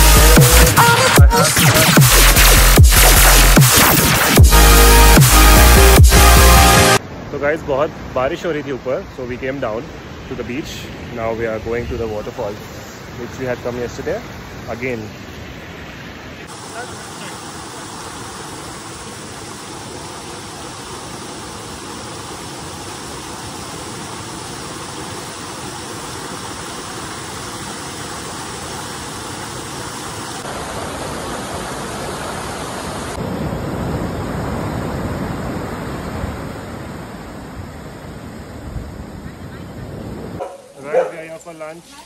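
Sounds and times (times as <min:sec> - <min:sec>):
waterfall rushing over rocks: 0:00.0 - 0:37.4.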